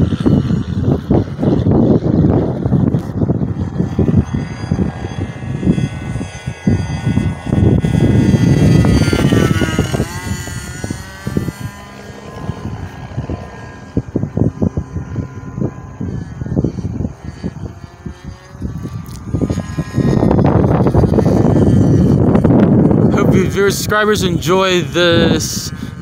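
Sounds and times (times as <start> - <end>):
model airplane engine buzzing: 0.0 - 26.0
wind rumbling on microphone: 0.0 - 26.0.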